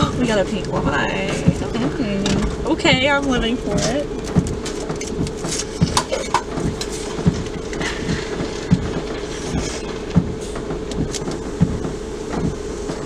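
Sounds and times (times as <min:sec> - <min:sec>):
car engine idling hum: 0:00.0 - 0:13.0
low thumps: 0:00.0 - 0:13.0.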